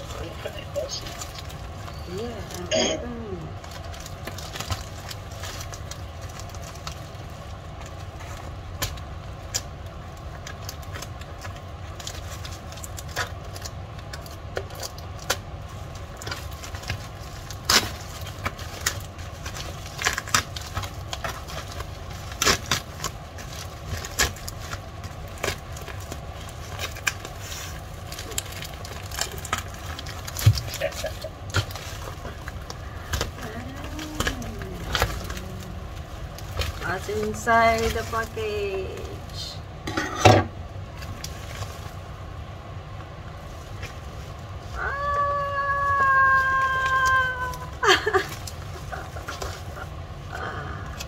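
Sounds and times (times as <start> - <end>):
plastic mailer crinkling: 0.0 - 2.7, 3.4 - 39.5, 40.6 - 51.0
steady low hum: 0.0 - 51.0.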